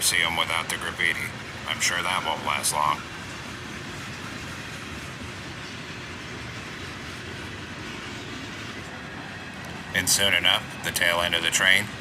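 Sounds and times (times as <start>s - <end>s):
train wheels rolling over rails: 0.0s - 12.0s.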